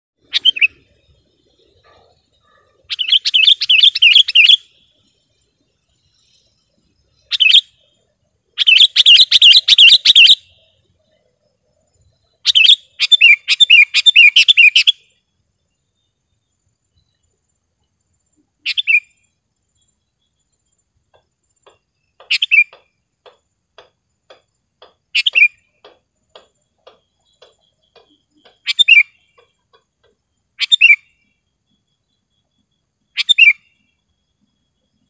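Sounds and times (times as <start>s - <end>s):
bulbul calling: 0.2s - 15.2s, 18.4s - 19.3s, 21.1s - 34.0s.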